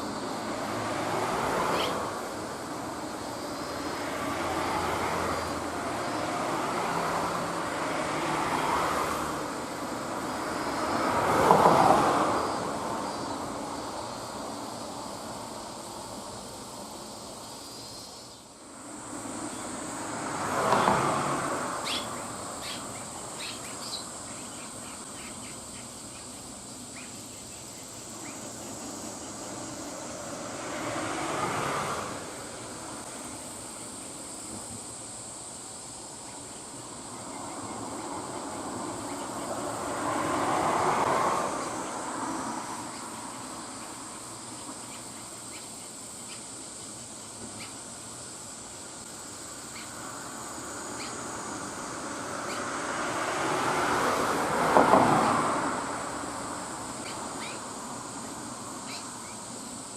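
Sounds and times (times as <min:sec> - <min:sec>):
high-pitched insect drone: 0:00.0 - 0:59.9
vehicles passing: 0:00.0 - 0:59.9.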